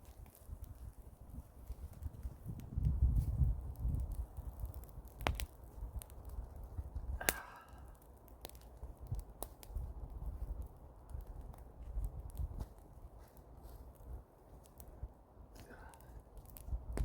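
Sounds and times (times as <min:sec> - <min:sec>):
bonfire crackling and popping: 0:00.0 - 0:17.0
wind rumble on microphone: 0:00.0 - 0:17.0.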